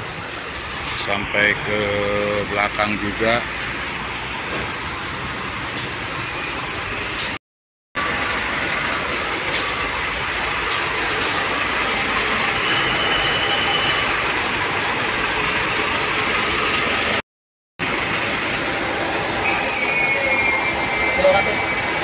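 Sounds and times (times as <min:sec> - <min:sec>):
diesel truck engines idling: 0:00.0 - 0:07.4, 0:08.0 - 0:17.2, 0:17.8 - 0:22.0.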